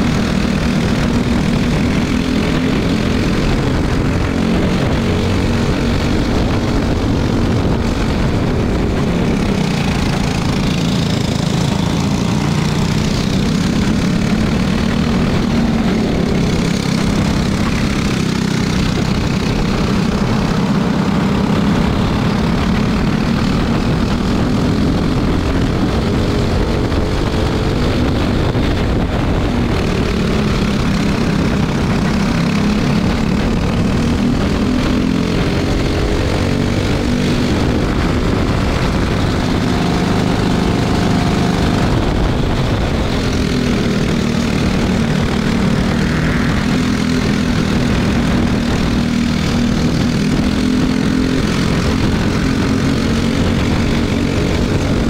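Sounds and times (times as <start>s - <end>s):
racing kart engines: 0.0s - 55.0s
wind noise: 0.0s - 55.0s.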